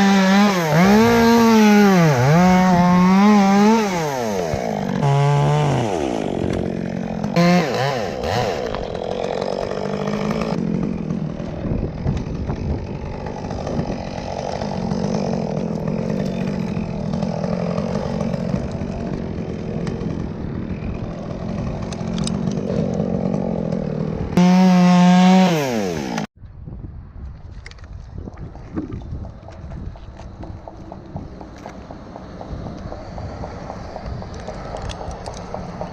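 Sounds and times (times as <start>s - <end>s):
chainsaw cutting wood: 0.0s - 26.3s, 29.1s - 35.9s.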